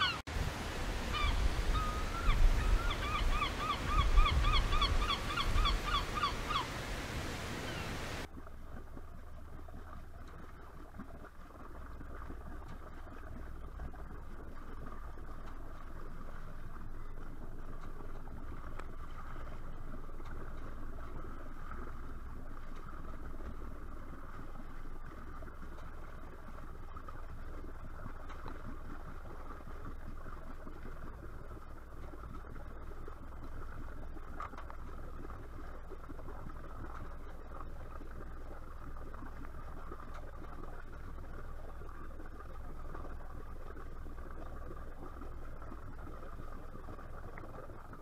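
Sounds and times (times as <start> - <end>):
water splashing against hull: 0.0 - 48.0.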